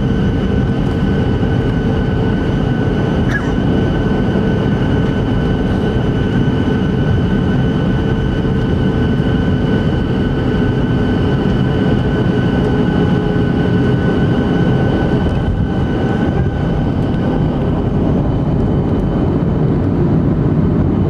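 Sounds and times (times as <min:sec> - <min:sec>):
jet engine roar with high whine: 0:00.0 - 0:21.0.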